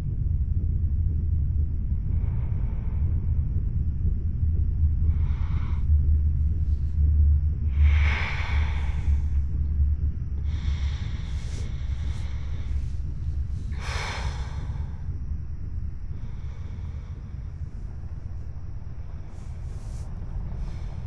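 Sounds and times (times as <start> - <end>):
low rumbling drone: 0.0 - 21.0
woman breathing heavily: 1.8 - 21.0.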